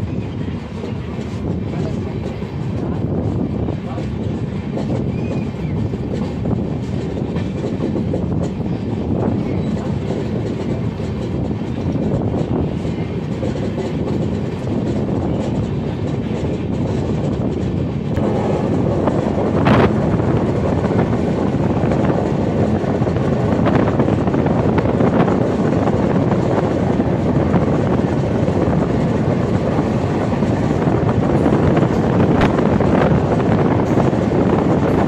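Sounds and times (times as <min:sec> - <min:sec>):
train wheels rumbling on rails: 0:00.0 - 0:35.0
wind buffeting microphone: 0:00.0 - 0:35.0.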